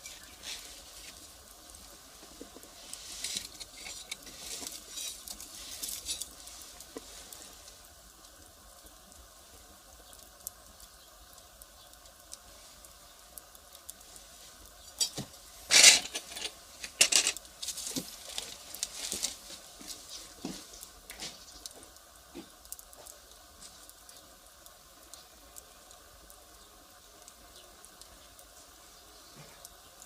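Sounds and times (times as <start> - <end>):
burning firewood crackling: 0.0 - 30.0.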